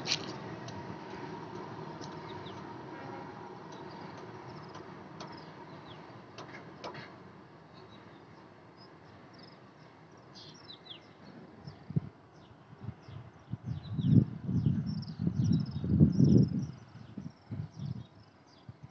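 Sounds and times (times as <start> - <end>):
freight train rumble: 0.0 - 18.9.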